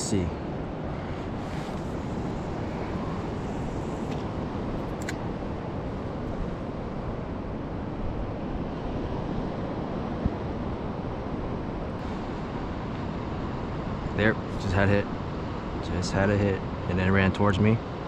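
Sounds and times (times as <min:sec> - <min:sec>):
wind noise on microphone: 0:00.0 - 0:15.8
ocean surf: 0:00.0 - 0:17.0.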